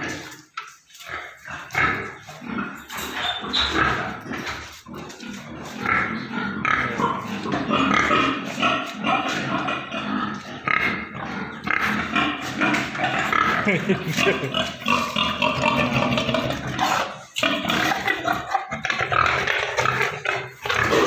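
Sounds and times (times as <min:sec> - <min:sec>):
pigs grunting and squealing: 0:00.0 - 0:21.0.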